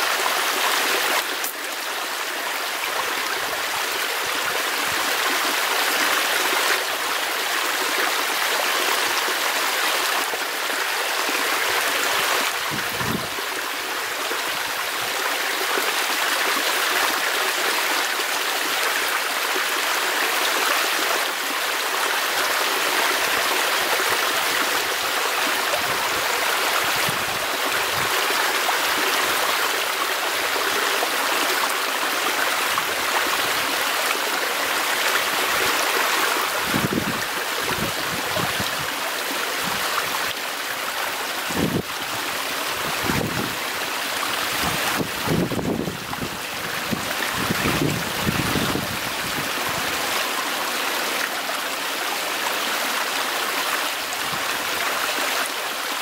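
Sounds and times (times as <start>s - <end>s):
steady rushing nature noise: 0.0s - 56.0s.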